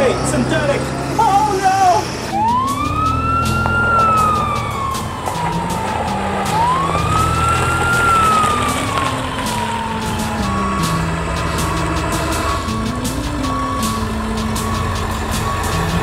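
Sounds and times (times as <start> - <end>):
ambulance siren wailing: 0.0 - 16.0.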